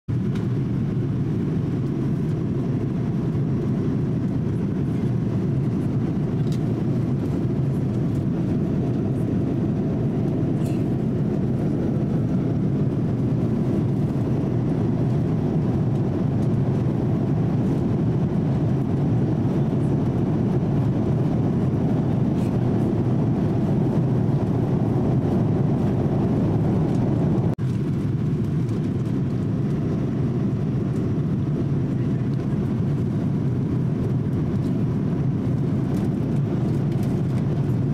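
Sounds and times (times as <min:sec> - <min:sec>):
airliner cabin rumble: 0:00.1 - 0:37.9.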